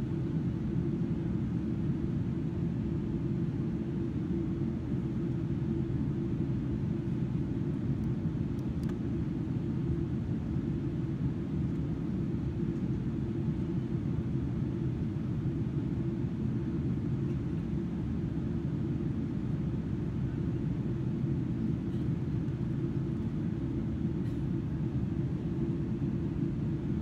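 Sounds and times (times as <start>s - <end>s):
airliner cabin engine drone: 0.0s - 27.0s.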